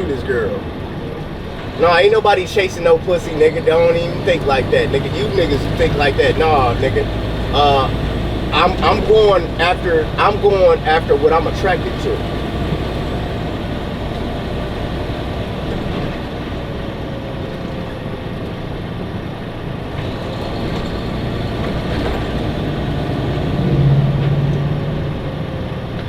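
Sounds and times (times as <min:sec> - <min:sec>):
truck engine drone inside cab: 0:00.0 - 0:26.0.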